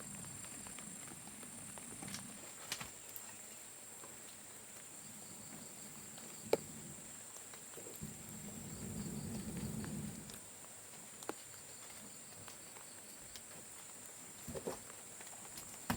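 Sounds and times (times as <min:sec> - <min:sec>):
insects droning: 0:00.0 - 0:15.9.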